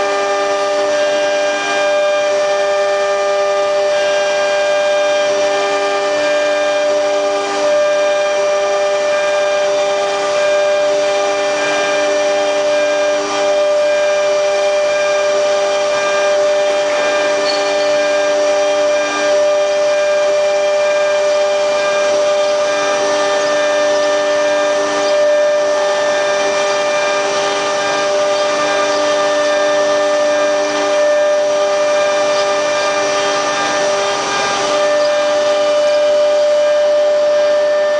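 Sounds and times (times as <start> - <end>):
cnc router motors whining: 0.0 - 37.9.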